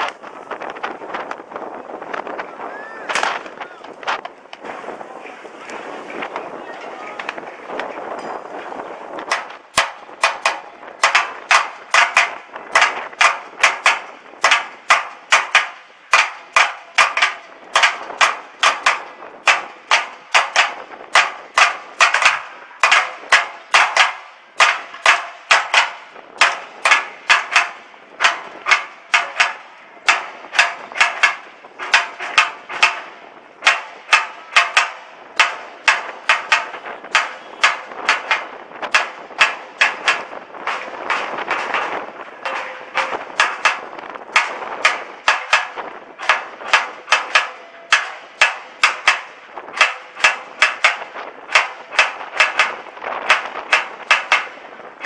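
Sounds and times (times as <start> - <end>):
loud regular banging: 3.1 - 4.8, 7.2 - 55.0.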